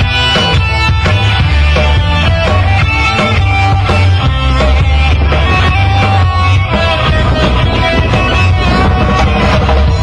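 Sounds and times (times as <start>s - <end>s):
drum kit beat: 0.0s - 10.0s
electric guitar: 0.0s - 10.0s
heavy bass: 0.0s - 10.0s
keyboard: 0.0s - 10.0s.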